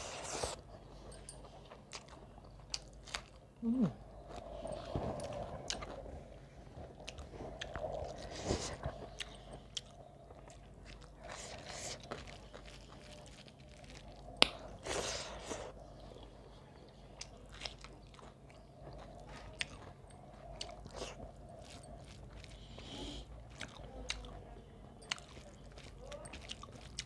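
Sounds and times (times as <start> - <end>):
chewing and mouth smacks: 0.2 - 27.0.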